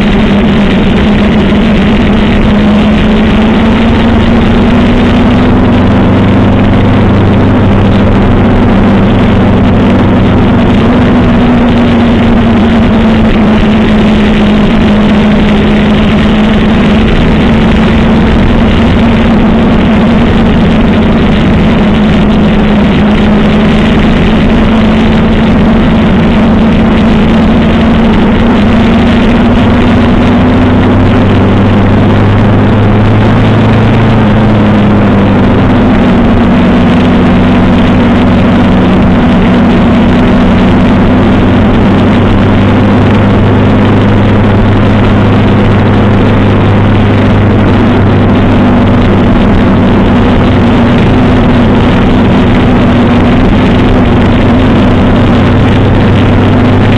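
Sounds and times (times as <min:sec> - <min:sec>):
motorcycle engine cruising: 0:00.0 - 0:56.9
wind and road noise: 0:00.0 - 0:56.9.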